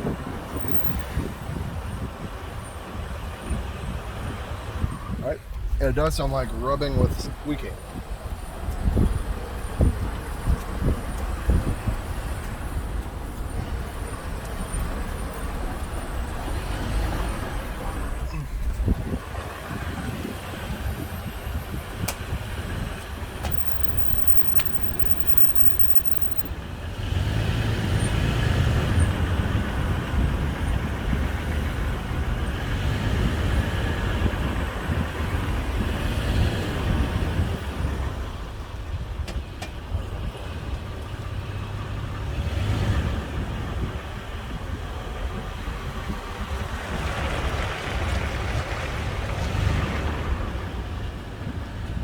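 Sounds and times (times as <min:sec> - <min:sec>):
car driving with road noise: 0:00.0 - 0:52.0.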